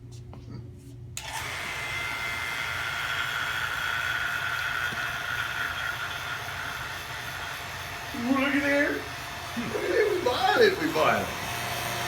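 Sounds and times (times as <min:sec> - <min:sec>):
vacuum pump running: 0:01.2 - 0:12.0.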